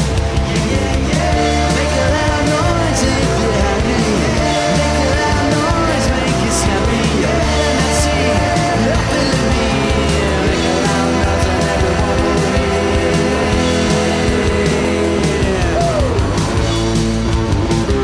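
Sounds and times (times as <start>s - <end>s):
band playing a song: 0.0s - 18.0s
person singing: 0.4s - 16.6s.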